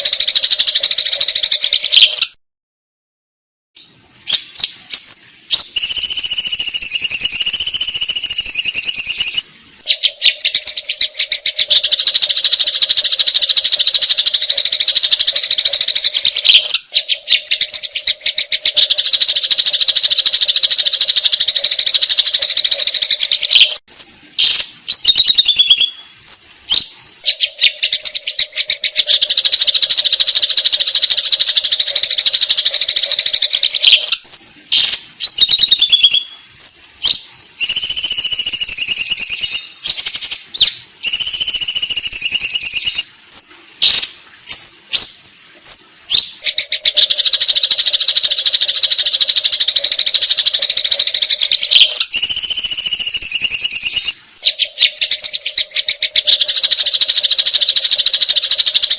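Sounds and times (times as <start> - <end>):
whistled bird song: 0.0 - 2.4, 3.8 - 58.9.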